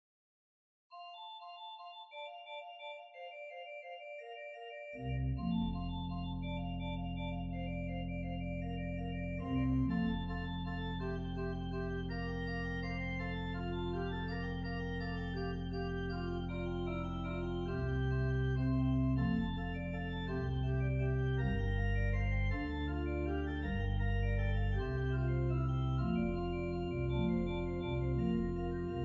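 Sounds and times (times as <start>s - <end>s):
church organ playing a hymn: 1.2s - 29.0s.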